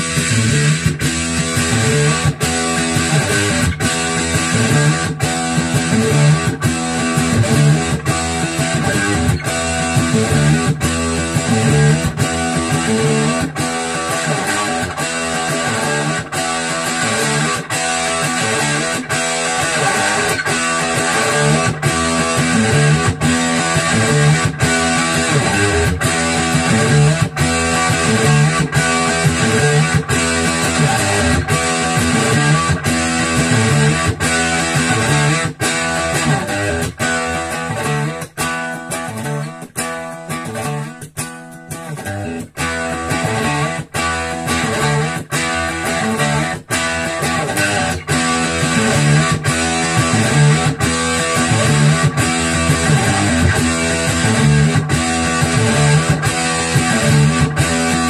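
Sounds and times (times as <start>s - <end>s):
overdriven electric guitar riff: 0.0s - 58.0s.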